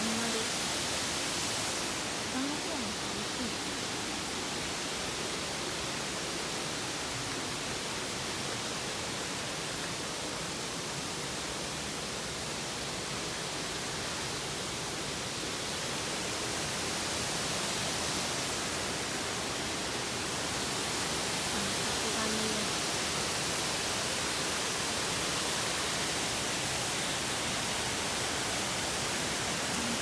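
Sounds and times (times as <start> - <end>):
waterfall rushing: 0.0 - 12.6, 15.4 - 30.0.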